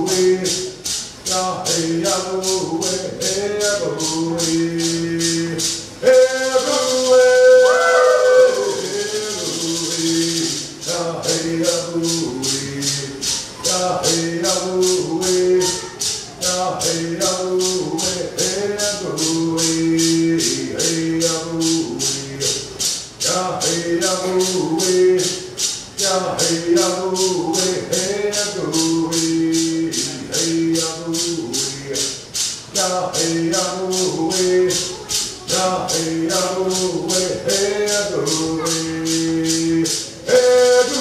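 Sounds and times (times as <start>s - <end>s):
hand rattle shaking: 0.0s - 41.0s
people singing: 1.3s - 22.6s, 23.2s - 32.2s, 32.8s - 41.0s.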